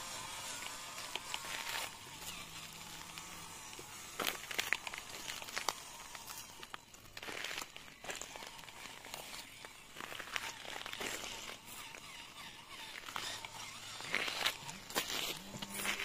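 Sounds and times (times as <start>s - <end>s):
crinkling handling noise: 0.0s - 16.0s.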